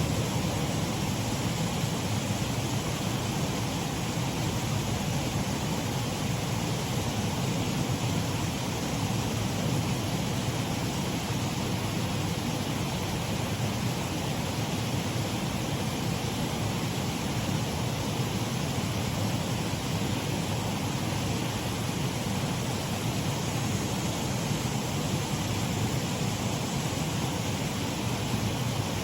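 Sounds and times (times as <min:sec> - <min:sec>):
waterfall rush of water: 0:00.0 - 0:29.0.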